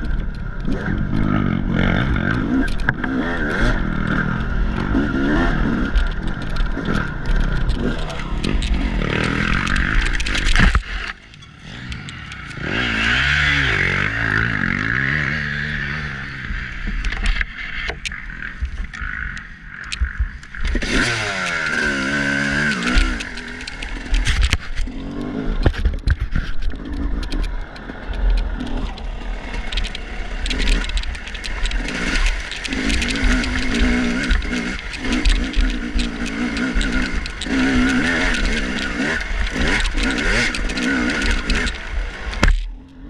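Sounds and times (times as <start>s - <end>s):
dirt bike engine revving: 0.0s - 43.0s
knocks and rattles: 3.8s - 13.0s, 16.8s - 42.7s.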